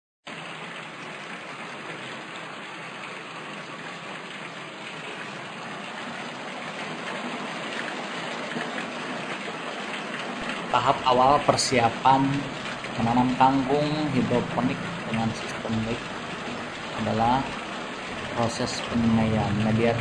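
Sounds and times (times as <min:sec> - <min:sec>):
steady hiss of water: 0:00.3 - 0:20.0.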